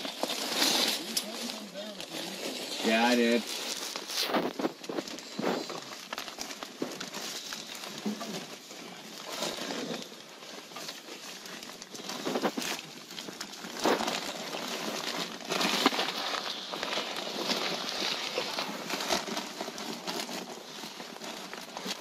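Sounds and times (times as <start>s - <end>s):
insulation rustling and crinkling: 0.0s - 22.0s.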